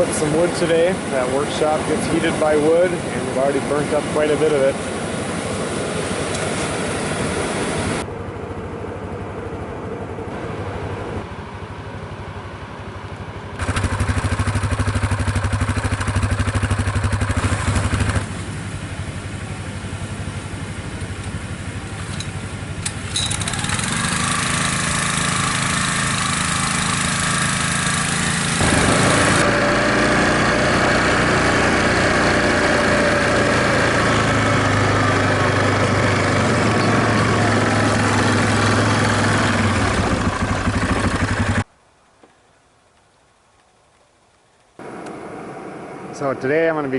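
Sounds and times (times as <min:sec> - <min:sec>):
engine running with low hum: 0:00.0 - 0:41.7, 0:44.8 - 0:46.9.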